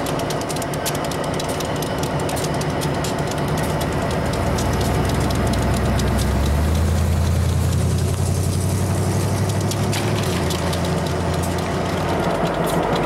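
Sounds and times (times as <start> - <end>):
locomotive engine drone: 0.0 - 13.0
deeper engine note: 1.0 - 13.0.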